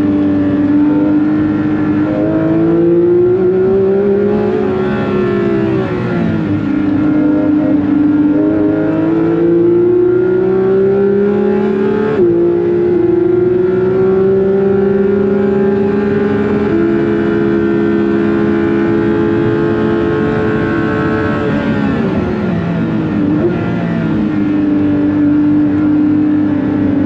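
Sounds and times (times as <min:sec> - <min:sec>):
car engine at high revs: 0:00.0 - 0:27.0.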